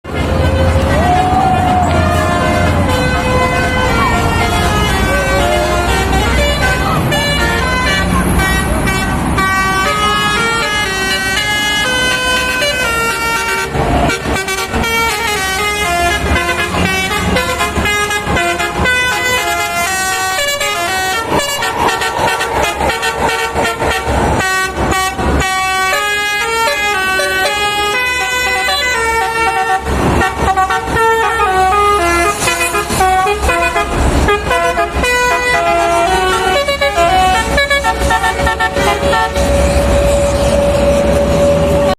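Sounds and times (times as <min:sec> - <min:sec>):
multi-tone air horn tune: 0:00.1 - 0:41.9.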